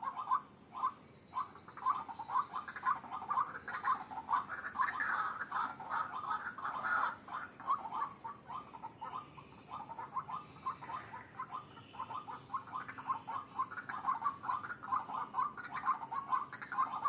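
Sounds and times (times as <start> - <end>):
waterhen calling rapidly: 0.0 - 17.0.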